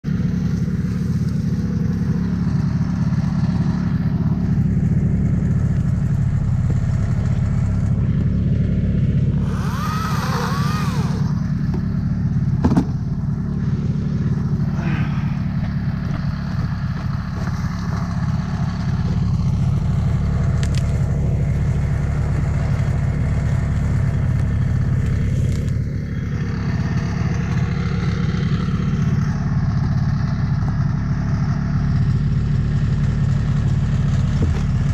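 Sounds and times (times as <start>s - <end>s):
snowmobile engine idling: 0.1s - 34.9s.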